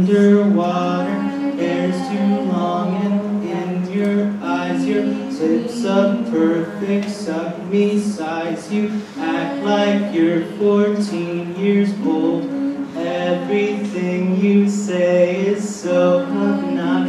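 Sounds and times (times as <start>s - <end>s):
voices singing a cappella in harmony: 0.0s - 17.0s.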